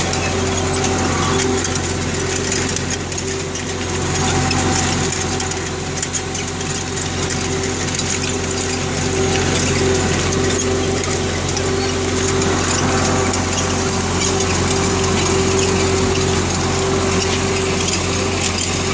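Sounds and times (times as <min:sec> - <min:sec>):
tractor diesel engine under load: 0:00.0 - 0:18.9.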